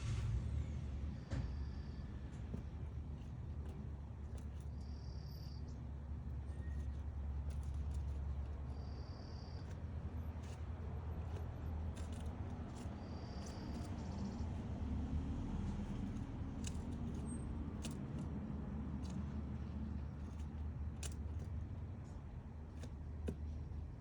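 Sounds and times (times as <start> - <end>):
steady low rumble: 0.0 - 24.0
woodpecker tapping on wood: 2.3 - 23.9.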